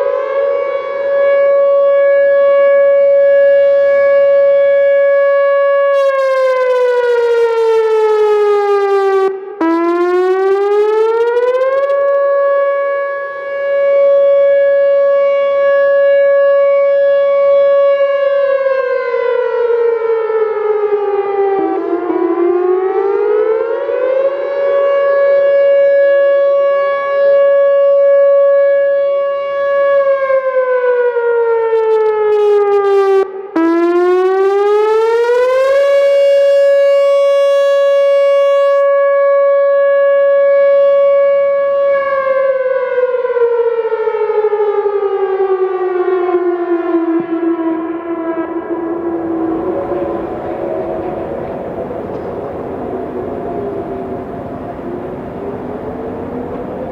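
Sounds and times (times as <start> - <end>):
warning siren wailing: 0.0 - 56.9.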